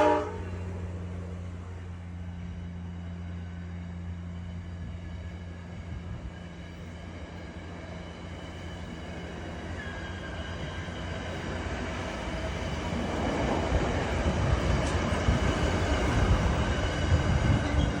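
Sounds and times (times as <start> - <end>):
train rumble and clatter: 0.0 - 18.0.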